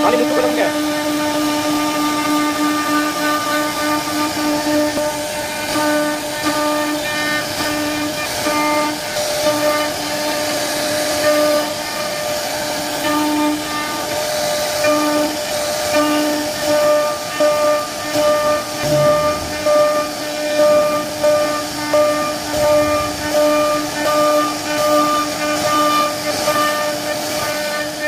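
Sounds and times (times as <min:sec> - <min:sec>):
cutter hissing through wood: 0:00.0 - 0:28.0
router spindle whine: 0:00.0 - 0:28.0.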